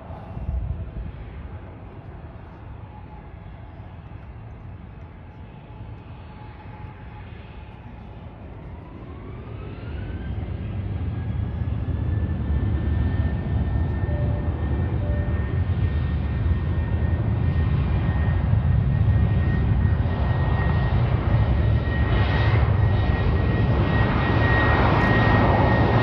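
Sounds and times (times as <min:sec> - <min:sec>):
jet engines spooling up: 0:04.2 - 0:26.0.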